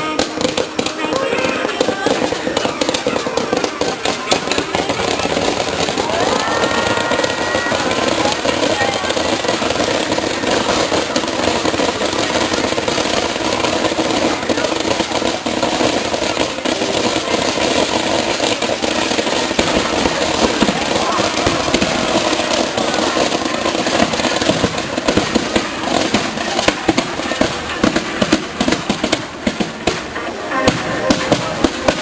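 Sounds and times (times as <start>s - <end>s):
crowd chatter: 0.0s - 32.0s
fireworks crackling and popping: 0.0s - 32.0s.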